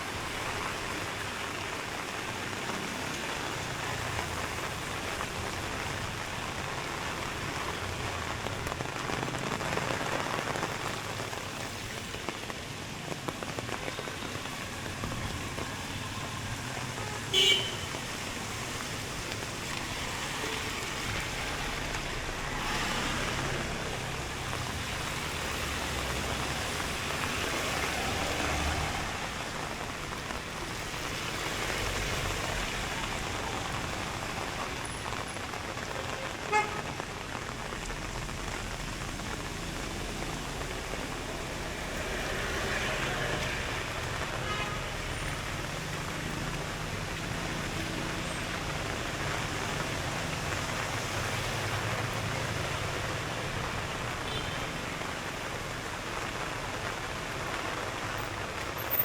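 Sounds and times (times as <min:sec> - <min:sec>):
rain hissing: 0:00.0 - 0:59.0
road traffic passing: 0:00.0 - 0:59.0.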